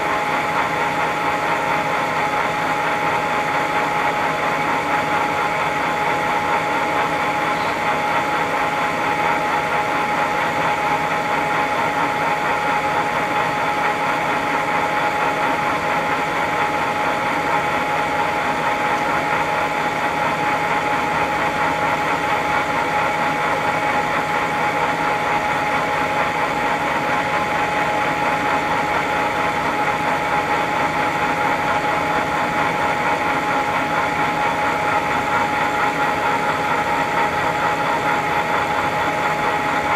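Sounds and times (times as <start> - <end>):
drill press humming: 0.0 - 39.9.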